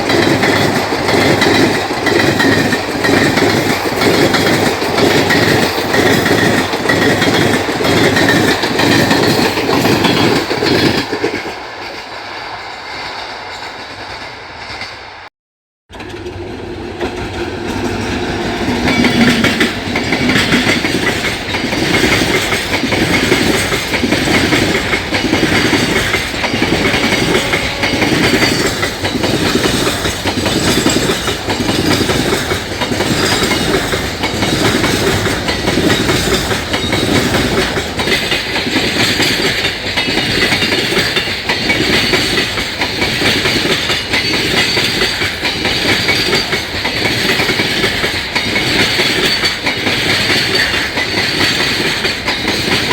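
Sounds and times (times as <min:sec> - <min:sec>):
wheels clattering over rail joints: 0:00.0 - 0:12.0, 0:15.9 - 0:52.9
train passing at speed: 0:00.0 - 0:15.3, 0:15.9 - 0:52.9.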